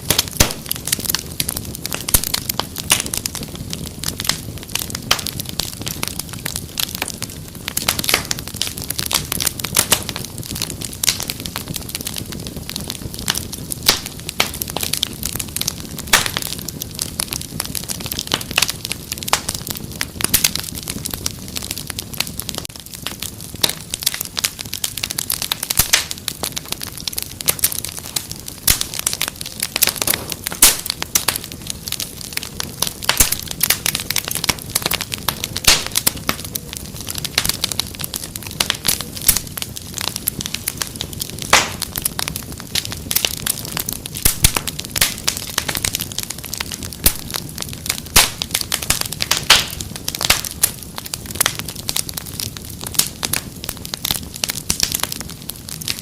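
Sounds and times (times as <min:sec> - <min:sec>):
soft low rumble of flames: 0:00.0 - 0:56.0
wood fire crackling and popping: 0:00.0 - 0:56.0.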